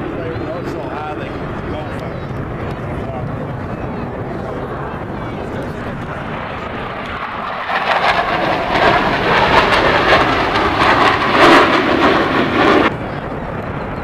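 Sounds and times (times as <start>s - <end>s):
aircraft roaring past: 0.0s - 14.0s.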